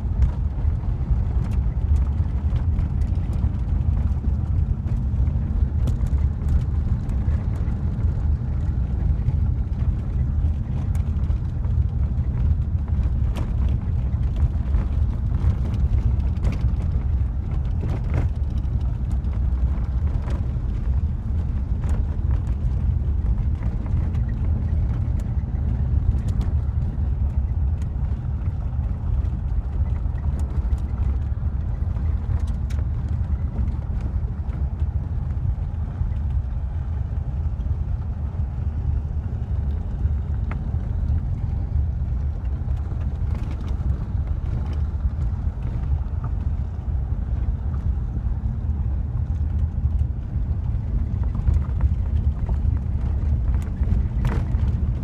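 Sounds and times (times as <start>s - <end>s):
car tyres on gravel road: 0.0s - 55.0s.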